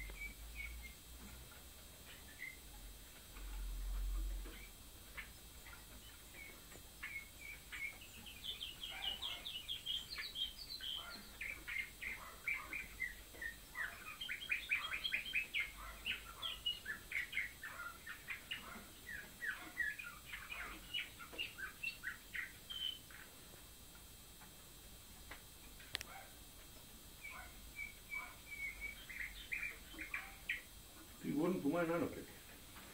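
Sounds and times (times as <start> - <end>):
canary singing: 0.0 - 23.6, 25.9 - 32.3.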